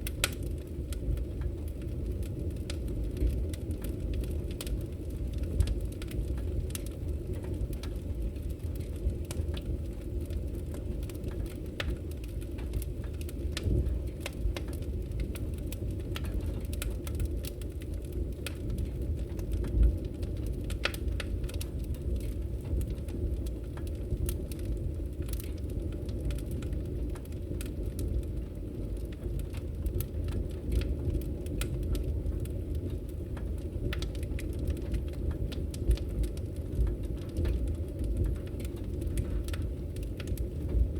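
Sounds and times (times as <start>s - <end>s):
wood fire crackling in a fireplace: 0.0s - 40.9s.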